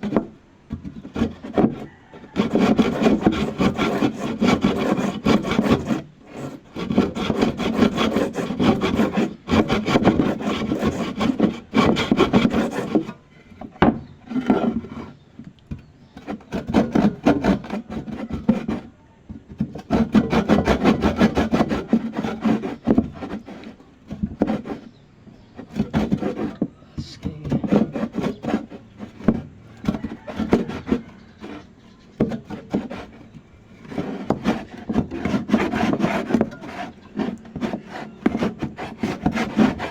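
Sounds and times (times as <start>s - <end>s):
hand saw cutting: 0.0s - 15.2s, 16.2s - 18.9s, 19.6s - 39.9s.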